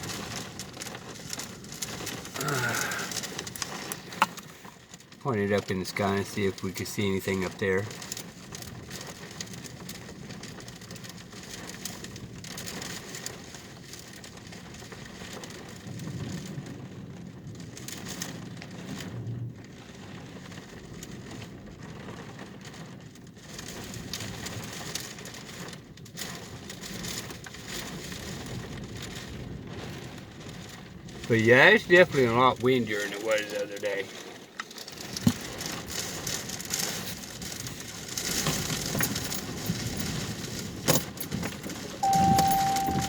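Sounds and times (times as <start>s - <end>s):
faint crackles: 0.0s - 43.0s
rain: 0.0s - 43.0s.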